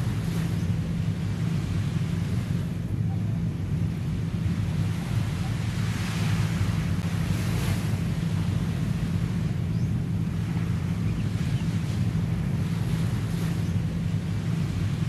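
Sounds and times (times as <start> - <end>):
sea waves washing onto beach: 0.0 - 15.0
wind buffeting microphone: 0.0 - 15.0.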